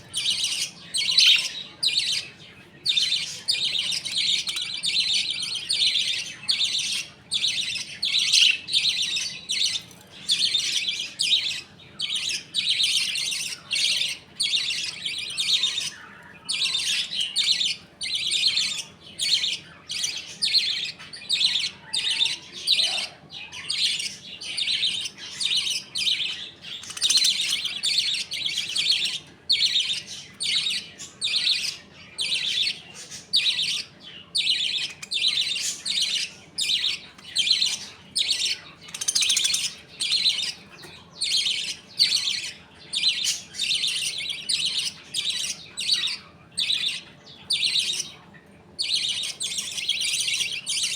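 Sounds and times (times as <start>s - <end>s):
budgerigars chirping: 0.0s - 50.9s.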